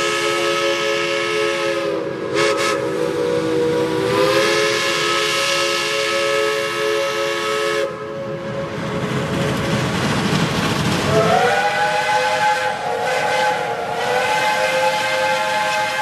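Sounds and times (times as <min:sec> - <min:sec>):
steam locomotive whistle: 0:00.0 - 0:08.8, 0:11.1 - 0:16.0.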